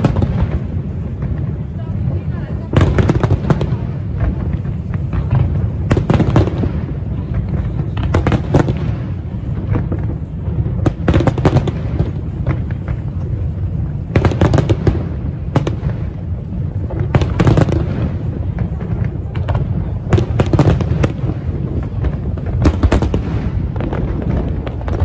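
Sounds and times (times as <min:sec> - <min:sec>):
low rumble of firework bursts: 0:00.0 - 0:25.0
sharp crackling firework reports: 0:00.0 - 0:25.0.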